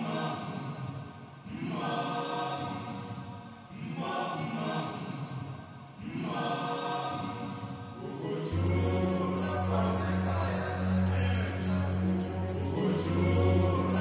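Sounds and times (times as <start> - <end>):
choir-like chant: 0.0 - 14.0.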